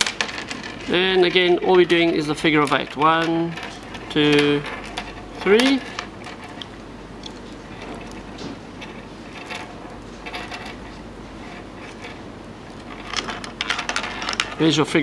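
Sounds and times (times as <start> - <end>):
low room tone hum: 0.0 - 15.0
fishing line rustling and scraping: 0.2 - 14.8.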